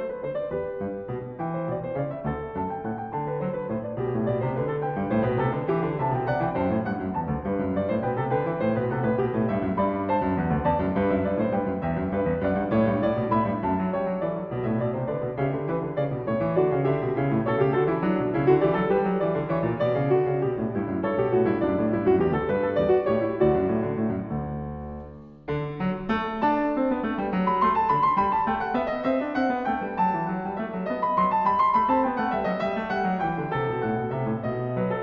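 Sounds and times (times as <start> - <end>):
solo piano music: 0.0 - 35.0.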